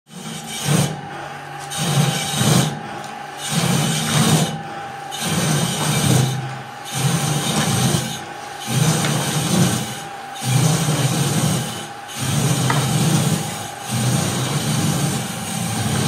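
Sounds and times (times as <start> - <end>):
steady high hum: 0.1 - 16.0
veneer peeling machine rasping: 0.1 - 16.0.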